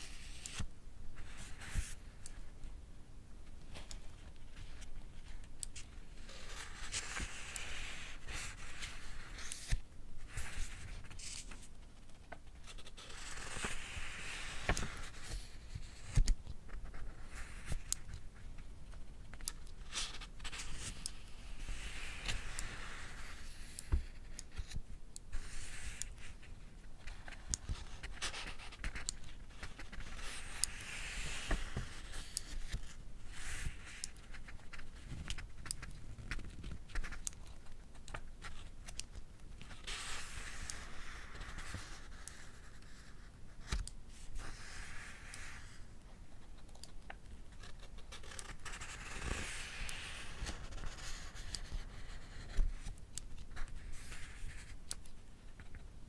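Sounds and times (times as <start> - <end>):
book pages turning: 0.0 - 2.0, 3.7 - 18.3, 18.9 - 24.8, 27.1 - 45.8, 46.8 - 55.8.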